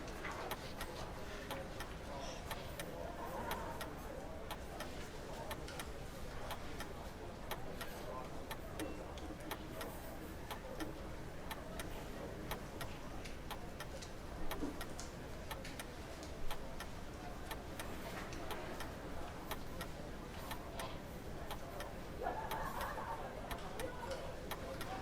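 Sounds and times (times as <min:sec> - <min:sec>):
low background murmur: 0:00.0 - 0:25.0.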